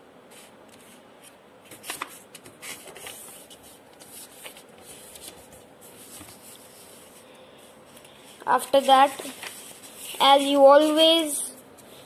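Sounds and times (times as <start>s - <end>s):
paper rustling on table: 0.3s - 12.0s.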